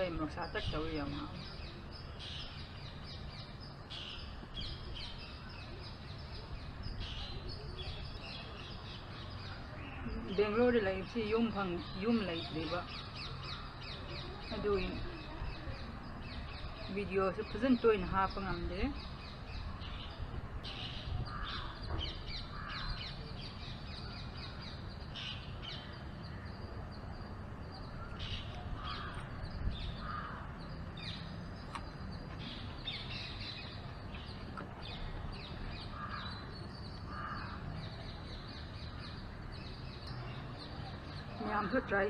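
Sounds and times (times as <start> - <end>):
light bird chirps: 0.0 - 42.0.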